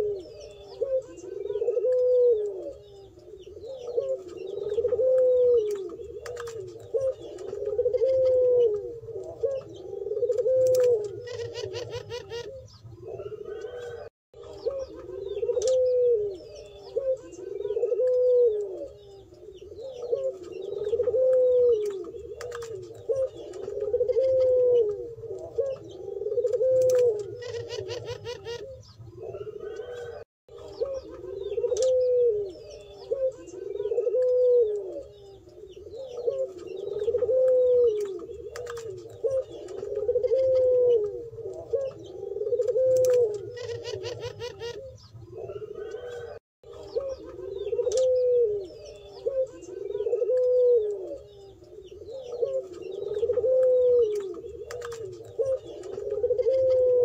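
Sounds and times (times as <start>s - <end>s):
doves cooing: 0.0s - 57.0s
small birds chirping: 0.0s - 57.0s.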